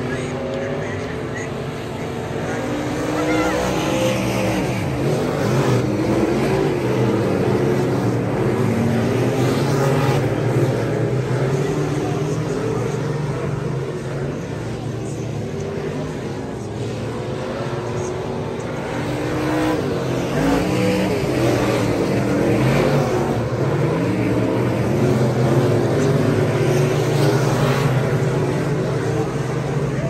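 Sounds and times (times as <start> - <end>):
race car engines droning: 0.0 - 30.0.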